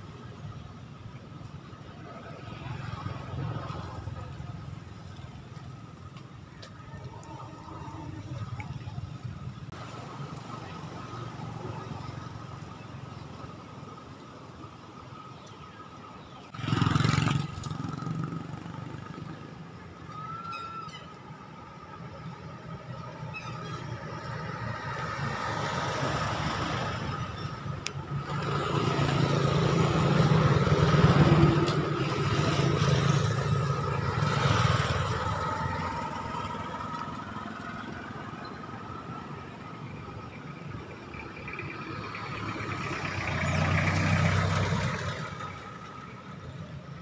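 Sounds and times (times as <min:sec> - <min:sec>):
vehicles passing: 0:00.0 - 0:47.0.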